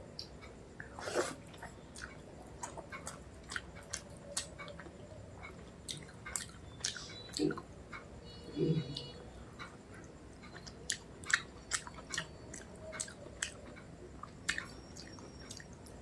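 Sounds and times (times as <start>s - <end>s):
close chewing mouth clicks: 0.2s - 7.6s, 9.0s - 16.0s.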